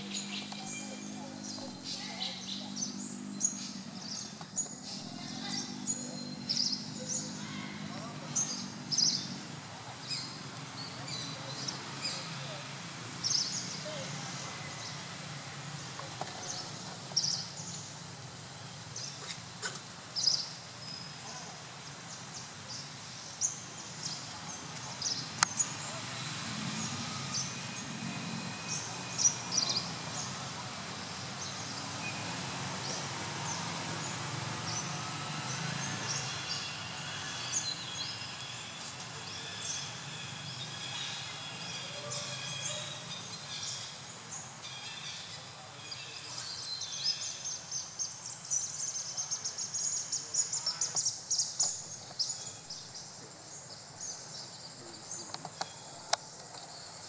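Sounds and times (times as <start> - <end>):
birds and insects chirping: 0.0 - 57.0
steady background hiss: 0.0 - 57.0.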